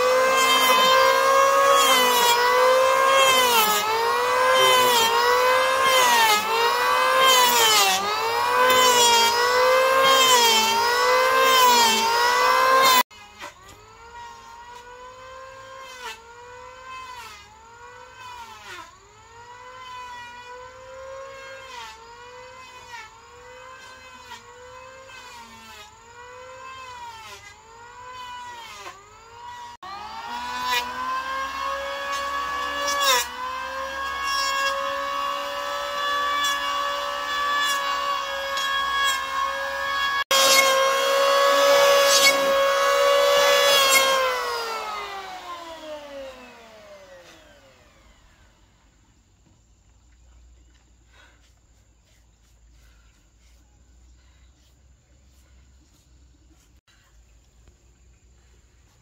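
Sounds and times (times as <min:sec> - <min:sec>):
power tool cutting wood: 0:00.0 - 0:48.6.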